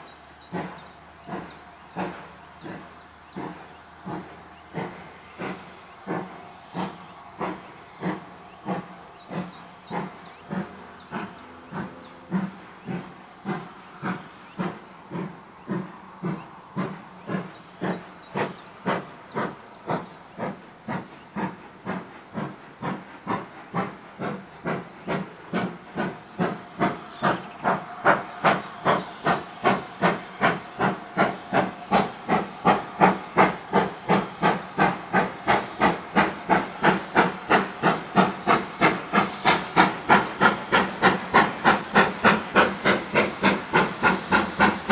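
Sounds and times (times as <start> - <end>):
steam locomotive exhaust beats: 0.0 - 44.9.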